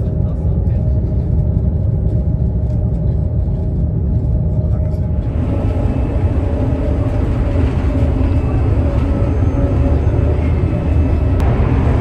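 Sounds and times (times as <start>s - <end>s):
hissy train running noise: 0.0s - 12.0s
train running rumble inside carriage: 0.0s - 12.0s.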